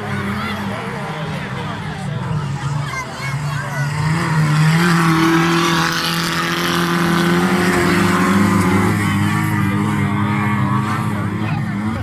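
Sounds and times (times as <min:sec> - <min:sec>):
racing engine at high revs: 0:00.0 - 0:12.0.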